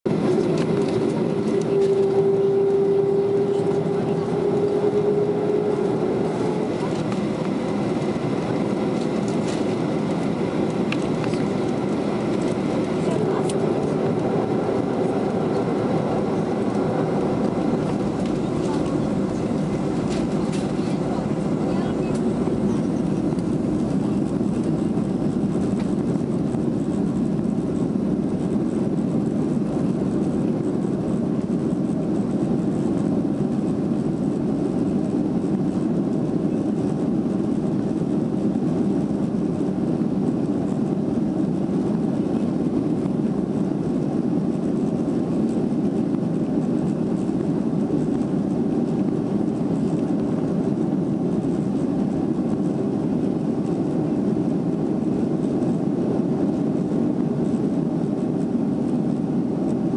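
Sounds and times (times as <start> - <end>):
jet engines droning: 0.1 - 59.9.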